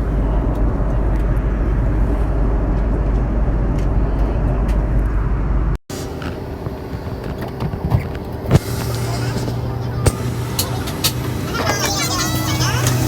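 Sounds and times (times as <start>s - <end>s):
vehicle rumble from inside: 0.0s - 13.0s.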